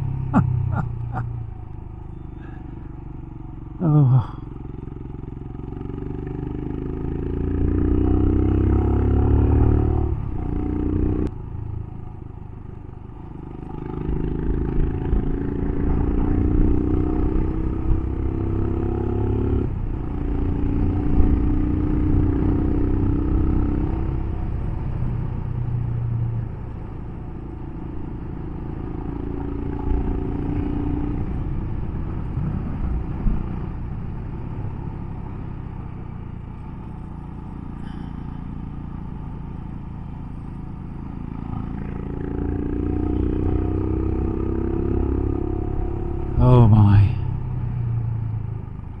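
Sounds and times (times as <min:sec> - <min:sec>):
motorcycle engine revving uphill: 0:00.0 - 0:11.8, 0:13.1 - 0:49.0.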